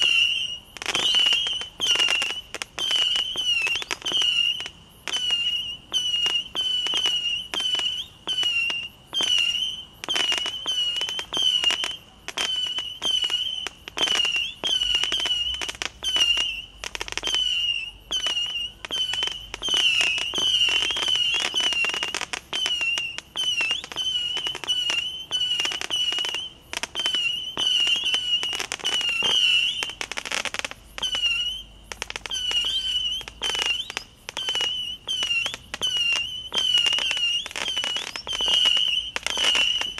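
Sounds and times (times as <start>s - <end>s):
firework whistling shots with pops: 0.0s - 39.9s.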